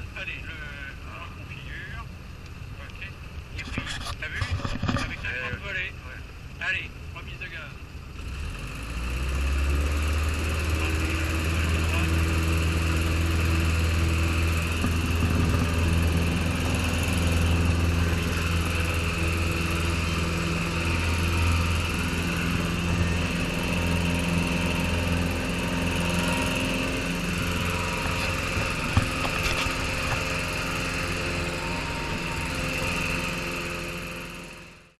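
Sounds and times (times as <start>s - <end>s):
light aircraft engine and propeller: 0.0s - 34.9s.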